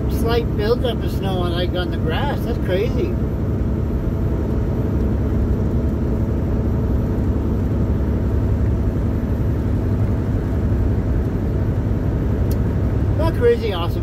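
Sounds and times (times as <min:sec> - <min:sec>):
truck engine and road drone: 0:00.0 - 0:14.0.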